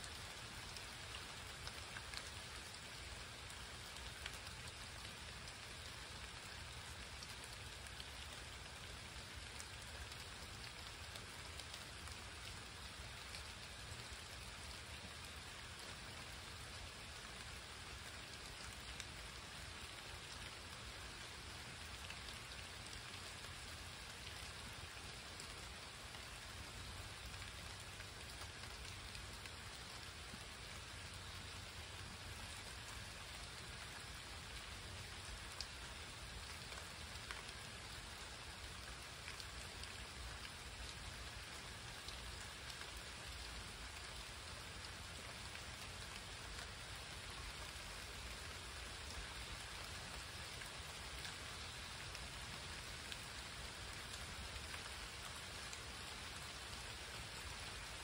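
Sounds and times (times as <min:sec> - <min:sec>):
rain hissing: 0:00.0 - 0:58.0
raindrops ticking: 0:00.0 - 0:58.0.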